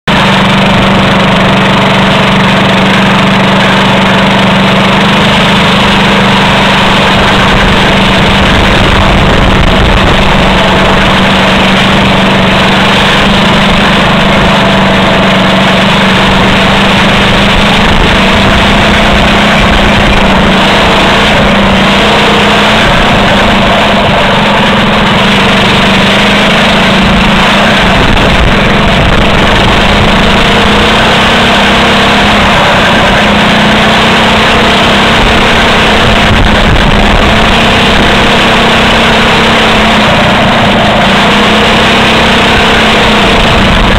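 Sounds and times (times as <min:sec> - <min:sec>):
go-kart engine running: 0:00.0 - 0:43.9.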